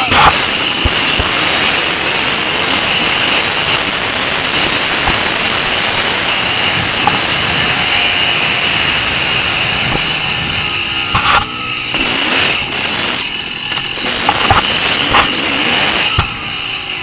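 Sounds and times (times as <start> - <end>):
dirt bike engine running: 0.0 - 17.0
wind rush on microphone: 0.0 - 17.0.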